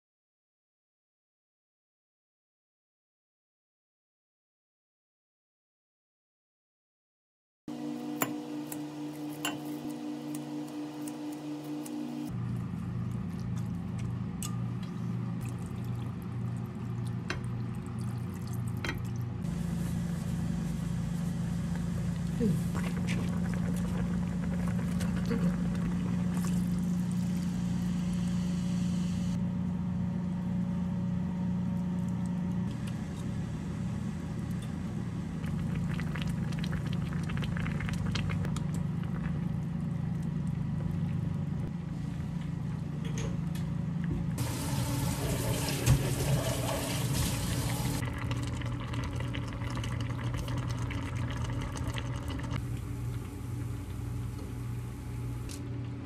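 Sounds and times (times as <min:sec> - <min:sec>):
stew boiling and bubbling: 0:07.7 - 0:29.4, 0:31.8 - 0:56.0
steady low hum: 0:07.7 - 0:45.4, 0:47.5 - 0:56.0.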